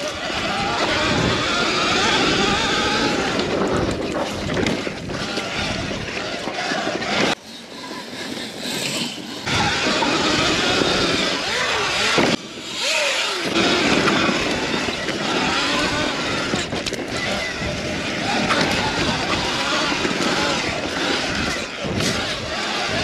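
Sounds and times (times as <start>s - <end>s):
electric bike drivetrain noise: 0.0s - 23.0s
tyres rolling over dirt: 0.0s - 23.0s.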